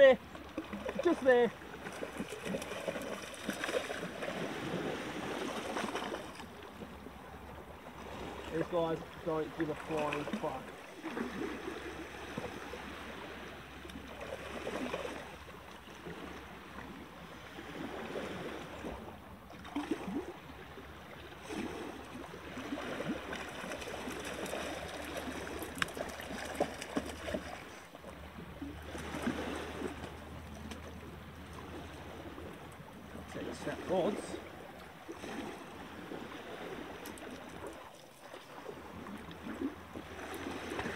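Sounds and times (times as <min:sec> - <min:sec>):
water lapping on rocky shore: 0:00.0 - 0:40.9.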